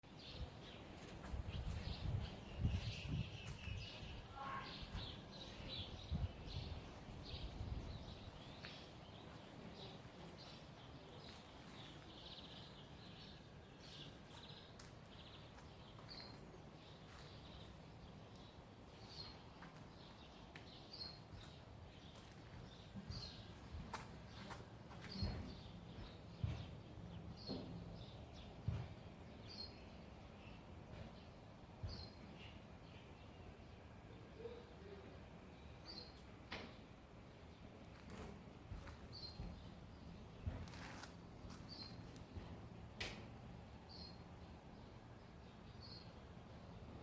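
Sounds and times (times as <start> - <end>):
small birds chirping: 0.1 - 47.0.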